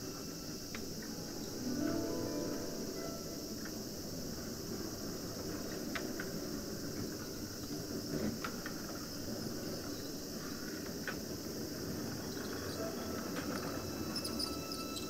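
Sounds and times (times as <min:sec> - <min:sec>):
high even hiss: 0:00.0 - 0:15.0.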